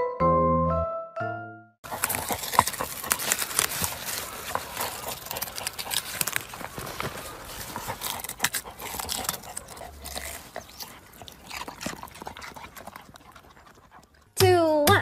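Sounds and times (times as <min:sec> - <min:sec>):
dog digging in soil: 0:01.8 - 0:14.3.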